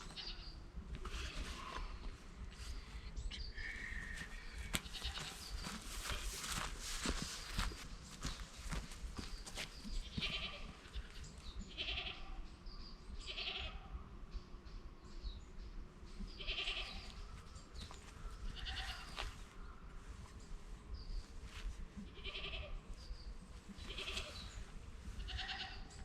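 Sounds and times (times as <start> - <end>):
low outdoor background: 0.0 - 26.0.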